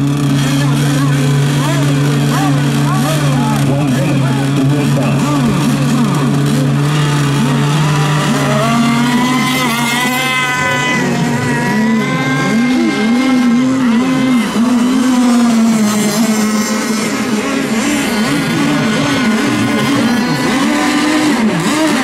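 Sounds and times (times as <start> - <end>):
racing boat motors whining: 0.0 - 22.0.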